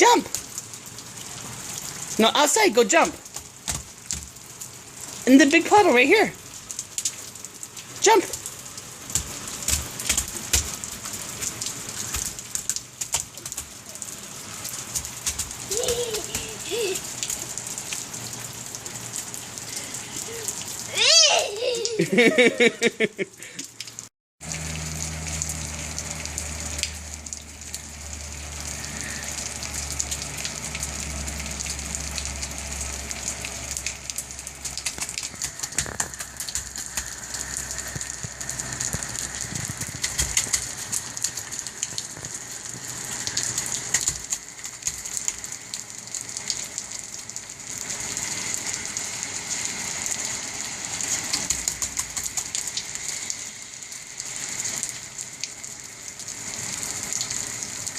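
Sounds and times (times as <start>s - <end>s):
rain hitting hard surfaces: 0.0s - 57.9s.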